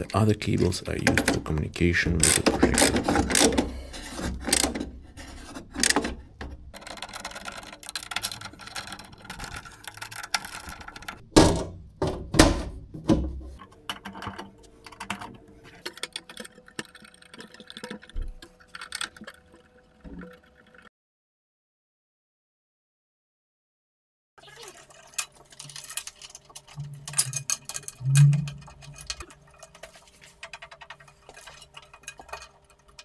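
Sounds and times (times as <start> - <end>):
clicks and rattles of metal parts: 0.0 - 11.7, 13.5 - 20.4, 24.8 - 33.0.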